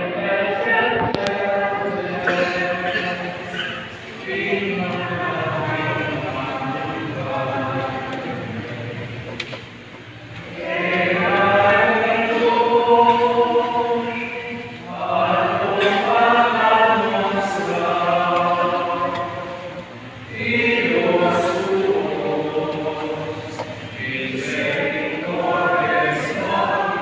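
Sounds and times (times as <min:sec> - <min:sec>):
group singing a hymn: 0:00.0 - 0:27.0.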